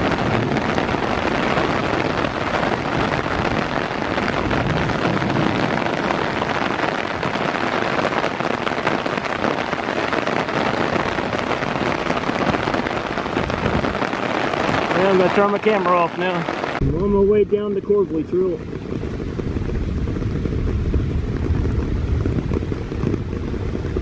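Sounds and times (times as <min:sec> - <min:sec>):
heavy rain: 0:00.0 - 0:24.0
raindrops hitting microphone: 0:00.0 - 0:24.0.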